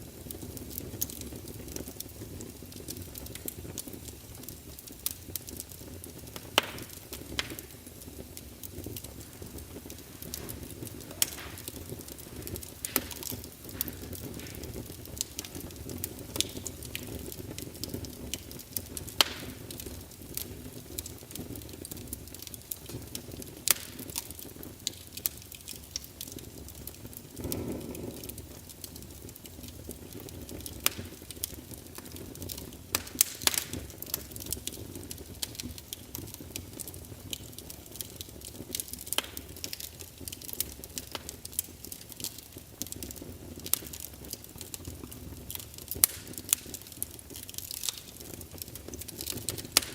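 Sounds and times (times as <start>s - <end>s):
flame noise: 0.0s - 49.9s
logs crackling and popping: 0.0s - 49.9s.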